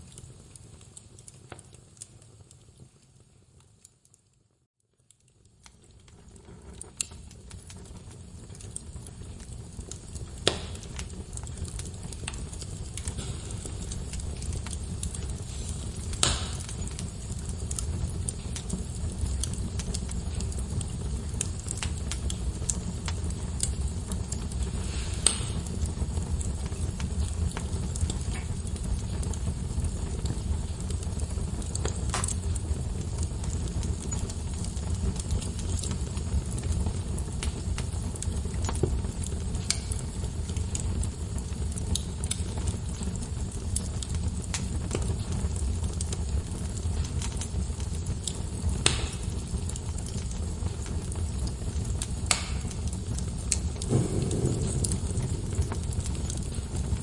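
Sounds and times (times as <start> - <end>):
logs crackling in fireplace: 0.0 - 57.0
low fire rumble: 0.0 - 57.0.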